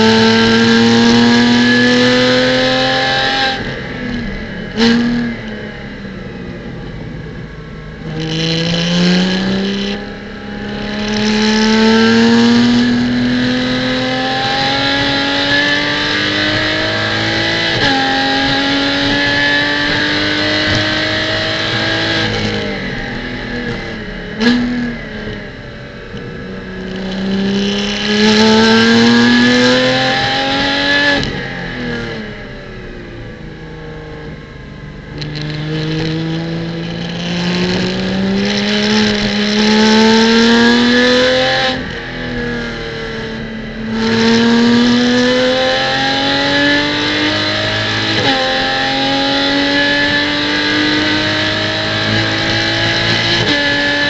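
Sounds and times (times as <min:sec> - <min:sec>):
race car engine accelerating: 0:00.0 - 0:07.2, 0:07.9 - 0:54.0.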